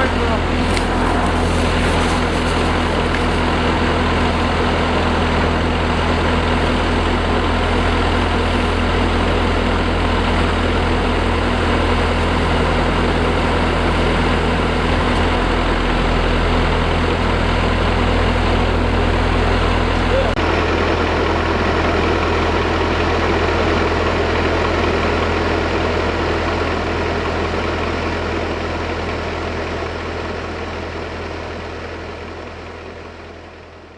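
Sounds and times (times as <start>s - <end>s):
threshing machine noise: 0.0s - 33.0s
diesel engine running: 0.0s - 33.9s.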